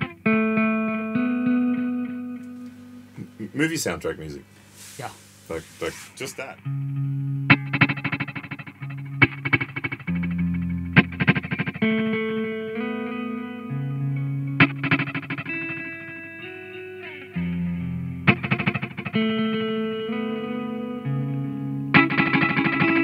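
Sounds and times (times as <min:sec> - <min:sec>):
electric guitar chords with stuttering repeats: 0:00.0 - 0:03.5, 0:06.6 - 0:23.0.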